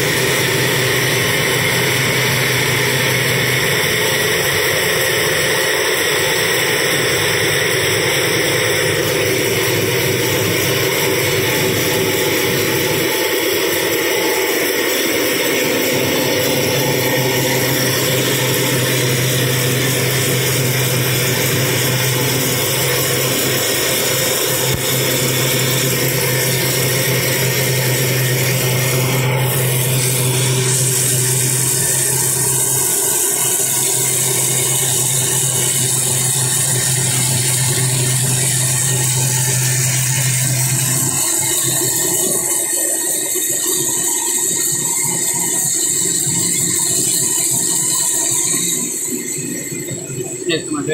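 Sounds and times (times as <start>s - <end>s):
low hum: 0.0s - 42.7s
steam engine hissing: 0.0s - 43.0s.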